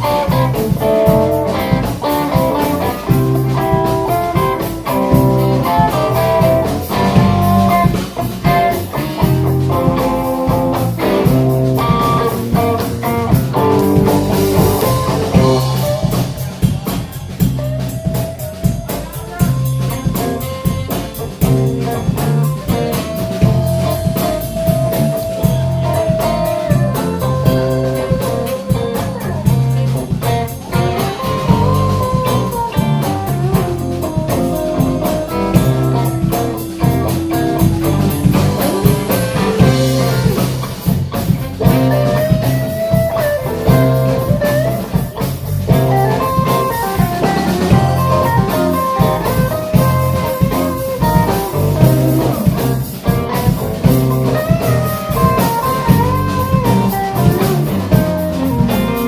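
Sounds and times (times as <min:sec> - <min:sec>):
bass groove: 0:00.0 - 0:59.0
drum kit: 0:00.0 - 0:59.0
lead guitar bent notes: 0:00.0 - 0:59.0
rhythm guitar: 0:00.0 - 0:59.0.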